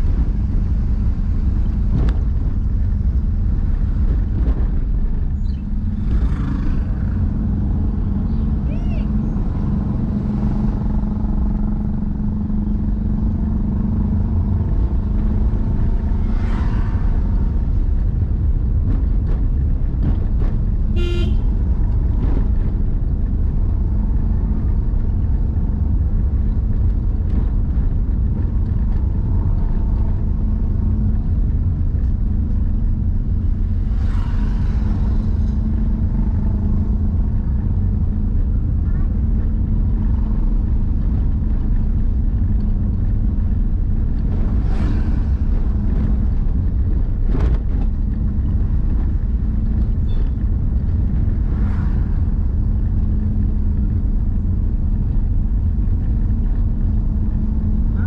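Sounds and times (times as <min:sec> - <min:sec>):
car engine and road noise: 0:00.0 - 0:58.0
passing vehicle noise: 0:00.0 - 0:58.0.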